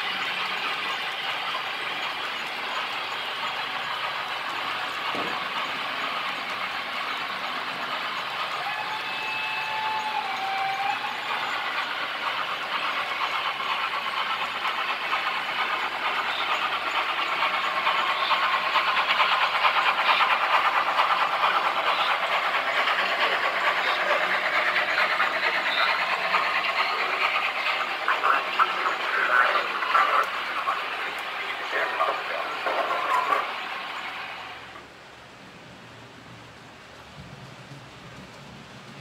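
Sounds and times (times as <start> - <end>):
model train wheels rattling on track: 0.0 - 34.9.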